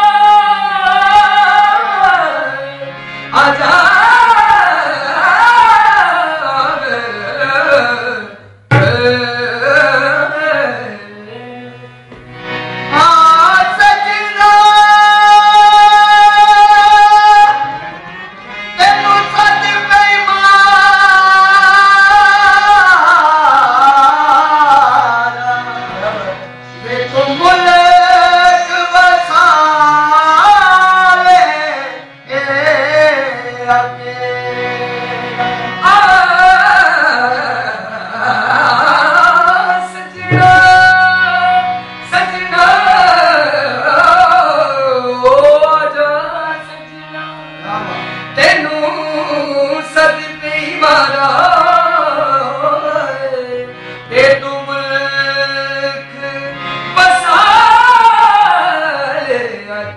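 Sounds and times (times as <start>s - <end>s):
harmonium: 0.0s - 59.9s
man singing: 0.0s - 59.9s
tabla: 0.0s - 59.9s.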